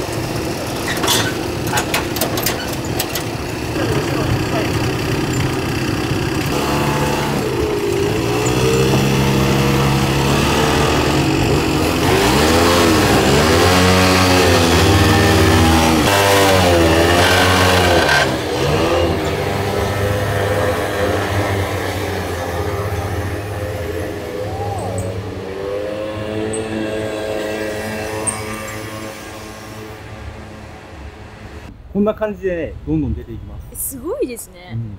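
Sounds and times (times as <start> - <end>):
vehicle engine revving: 0.0 - 31.7.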